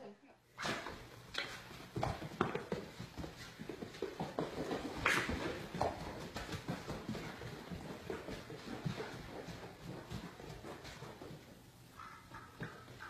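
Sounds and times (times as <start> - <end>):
dog paws tapping on floor: 0.6 - 13.0.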